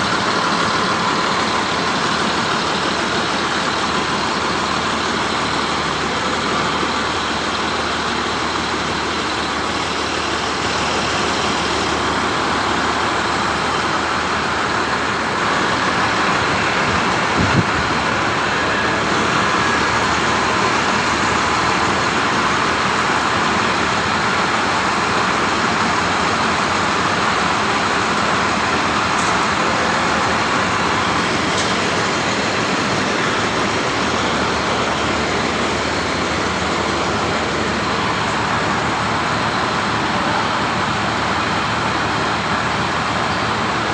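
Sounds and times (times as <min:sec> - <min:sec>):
drilling rig engine and air rush: 0:00.0 - 0:43.9.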